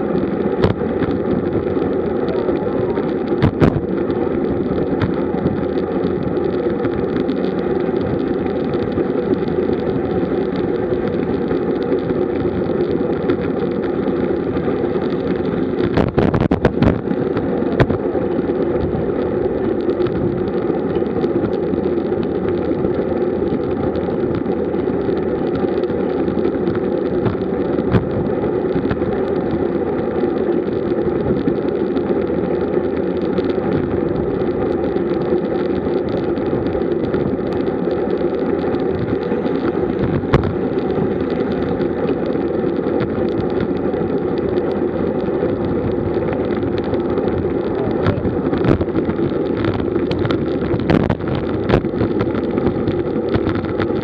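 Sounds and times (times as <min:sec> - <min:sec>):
wind rumble: 0:00.0 - 0:54.0.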